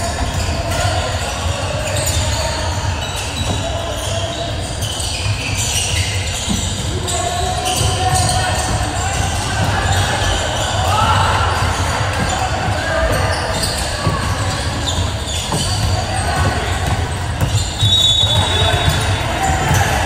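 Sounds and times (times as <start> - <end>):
basketball bouncing on court: 0.0 - 20.0
murmur of voices: 0.0 - 20.0.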